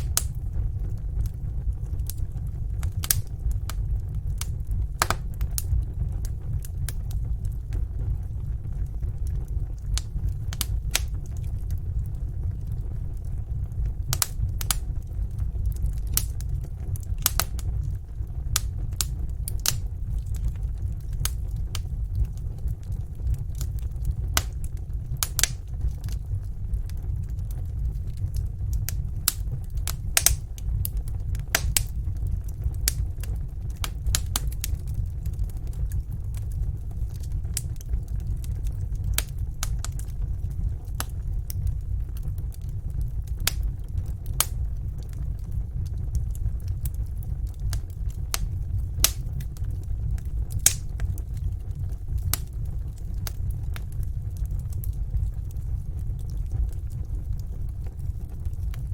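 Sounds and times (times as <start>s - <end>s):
fire crackling and popping: 0.0s - 58.9s
low fire rumble: 0.0s - 58.9s.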